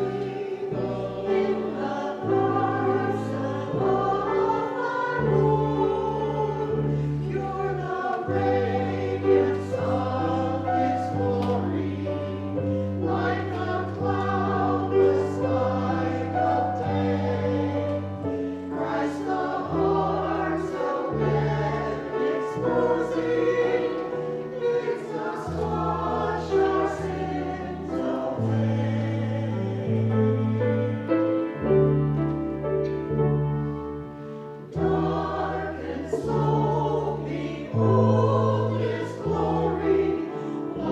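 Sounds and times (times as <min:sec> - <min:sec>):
choir singing: 0:00.0 - 0:32.4, 0:33.6 - 0:40.9.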